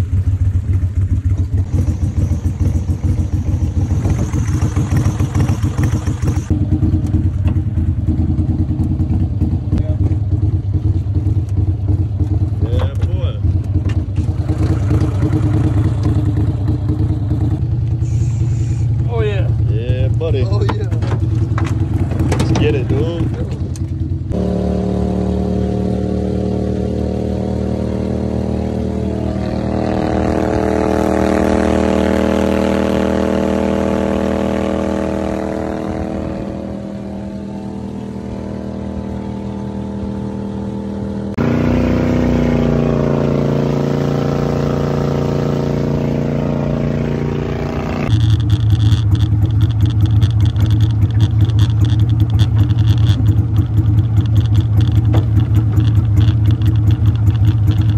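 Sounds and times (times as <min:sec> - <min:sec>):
mud motor running: 0:00.0 - 0:57.9.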